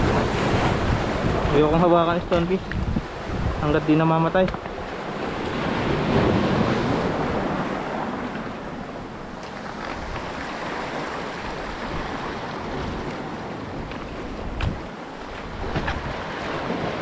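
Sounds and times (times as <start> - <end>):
surf washing over rocks: 0.0 - 17.0
wind buffeting microphone: 0.0 - 17.0.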